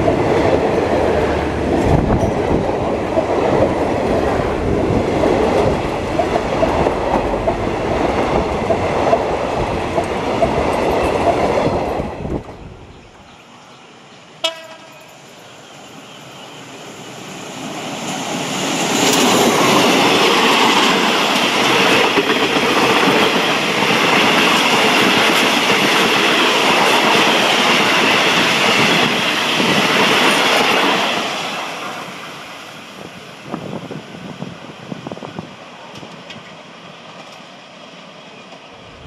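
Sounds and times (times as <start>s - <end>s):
train rushing past on rails: 0.0s - 39.0s.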